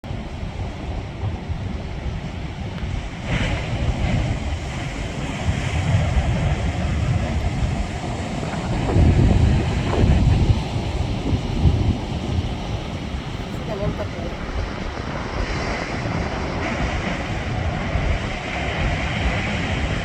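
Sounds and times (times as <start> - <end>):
wind on microphone: 0.0 - 20.0
ocean surf breaking: 0.1 - 20.0.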